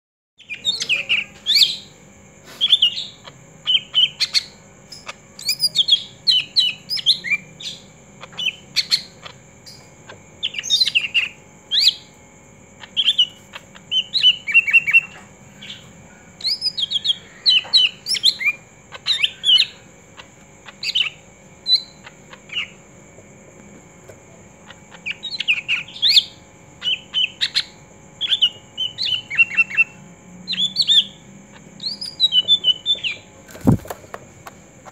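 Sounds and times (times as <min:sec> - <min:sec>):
bird chirping and whistling: 0:00.4 - 0:01.9, 0:02.6 - 0:12.1, 0:12.8 - 0:22.8, 0:24.7 - 0:33.8.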